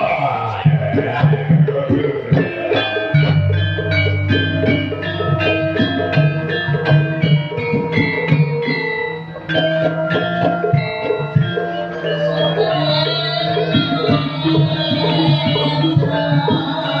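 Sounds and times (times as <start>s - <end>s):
gamelan music: 0.0s - 17.0s.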